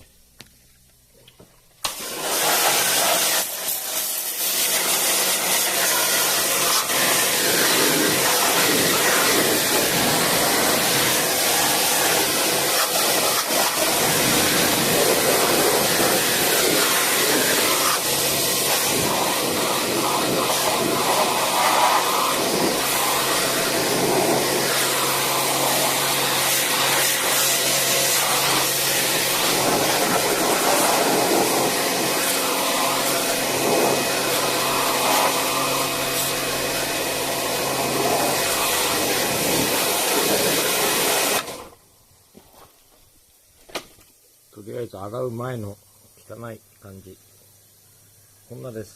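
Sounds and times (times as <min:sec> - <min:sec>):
blower rushing air: 0:01.8 - 0:41.7.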